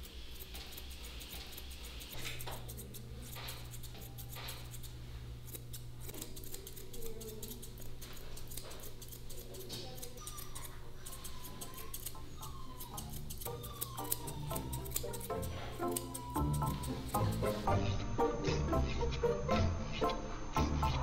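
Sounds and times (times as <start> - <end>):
scissors snipping hair: 0.0 - 17.7.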